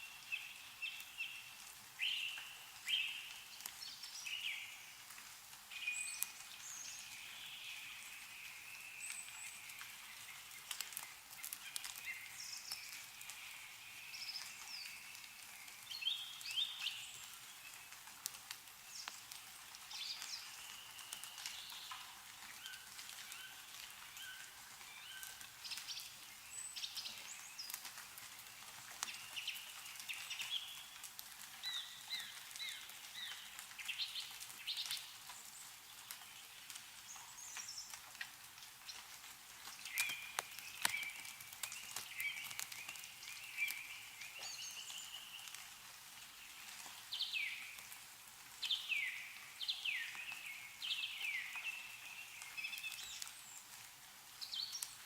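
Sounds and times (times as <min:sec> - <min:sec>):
meltwater dripping from trees: 0:00.0 - 0:55.0
songbirds chirping: 0:00.0 - 0:55.0.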